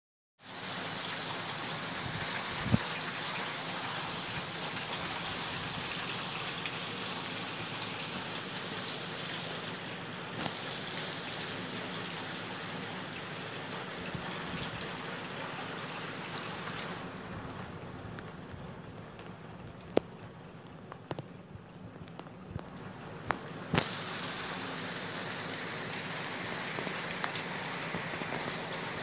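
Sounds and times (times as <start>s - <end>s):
heavy rain on roofs: 0.4s - 21.3s, 22.0s - 29.0s.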